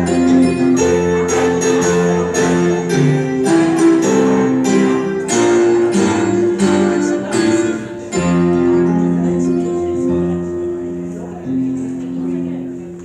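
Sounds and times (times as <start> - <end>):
plucked guitar-like chords: 0.0 - 13.0.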